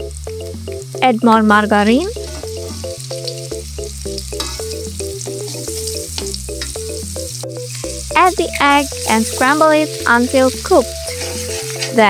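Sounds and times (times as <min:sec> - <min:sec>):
background music with bass line: 0:00.0 - 0:12.0
margarine sizzling in a wok: 0:00.0 - 0:12.0.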